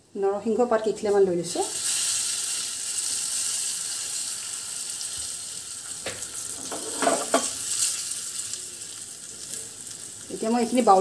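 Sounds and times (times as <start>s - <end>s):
leaves sizzling in hot oil: 0.4s - 11.0s.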